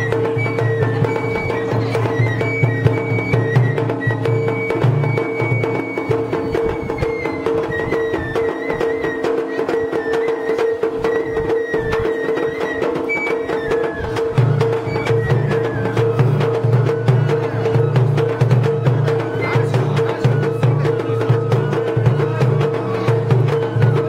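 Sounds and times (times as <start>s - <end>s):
high flute melody: 0.0s - 24.0s.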